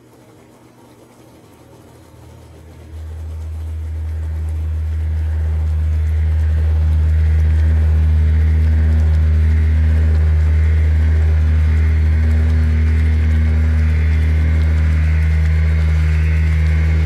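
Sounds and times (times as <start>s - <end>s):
deep steady drone: 1.5s - 17.0s
higher tone: 2.8s - 17.0s.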